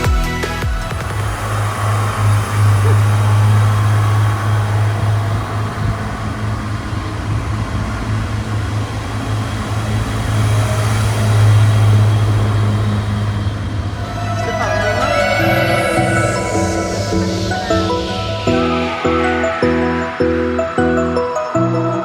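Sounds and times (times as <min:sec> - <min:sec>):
diesel train engines droning: 0:00.0 - 0:22.0.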